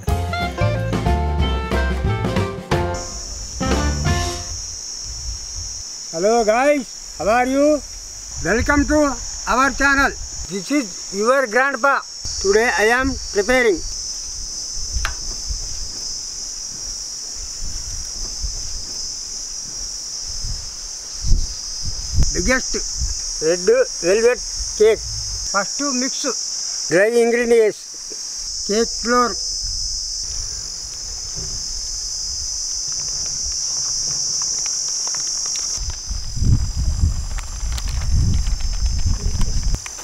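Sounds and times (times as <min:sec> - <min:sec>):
insects chirring: 0:02.6 - 0:40.0.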